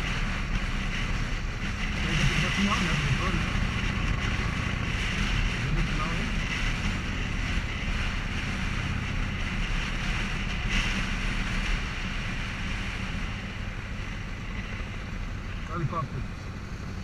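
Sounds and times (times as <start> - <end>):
motorcycle engine cruising: 0.0 - 17.0
wind rushing over microphone: 0.0 - 17.0.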